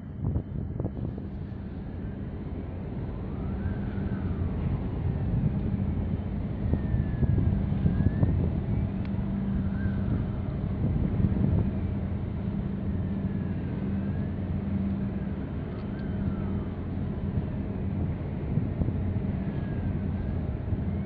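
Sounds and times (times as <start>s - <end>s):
low drone of ship engines: 0.0s - 21.0s
wind rumbling on microphone: 0.0s - 21.0s.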